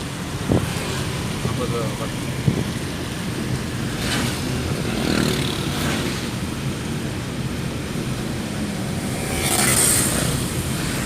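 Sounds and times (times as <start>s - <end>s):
vehicle road noise: 0.0s - 11.0s.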